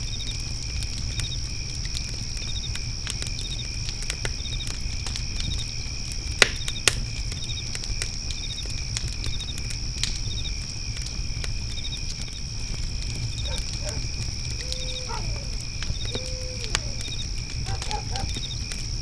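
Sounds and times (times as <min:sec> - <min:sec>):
crickets chirping: 0:00.0 - 0:19.0
wood fire crackling: 0:00.0 - 0:19.0.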